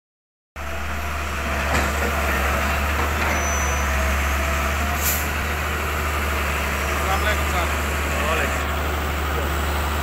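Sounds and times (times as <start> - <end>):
excavator diesel engine rumbling: 0.6 - 10.0.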